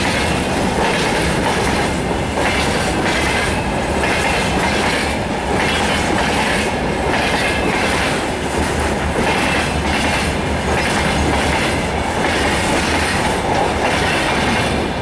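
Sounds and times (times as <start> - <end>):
rumble of wheels on rail: 0.0 - 15.0.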